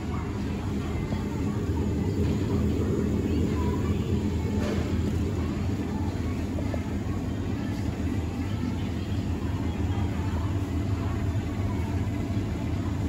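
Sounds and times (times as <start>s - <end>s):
supermarket ambience hum: 0.0s - 13.0s.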